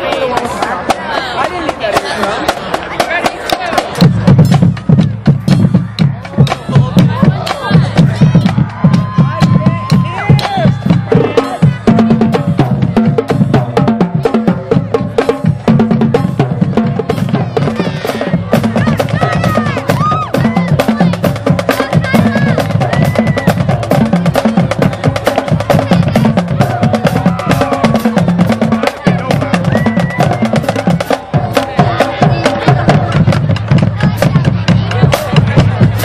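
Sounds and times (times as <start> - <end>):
drums and percussion beat: 0.0 - 36.0.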